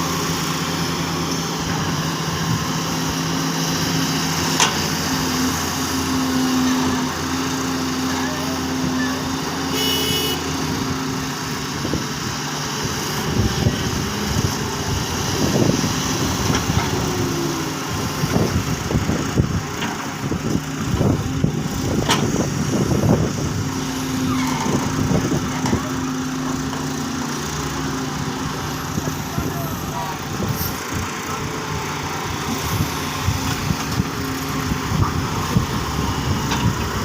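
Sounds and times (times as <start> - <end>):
excavator diesel engines running: 0.0 - 37.0.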